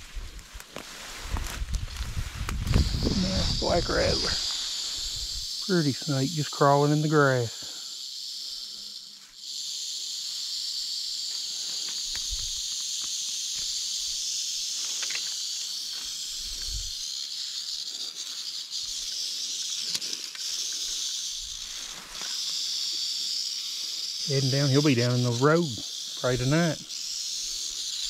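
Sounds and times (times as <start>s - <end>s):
rattlesnake rattling: 0.0s - 28.0s.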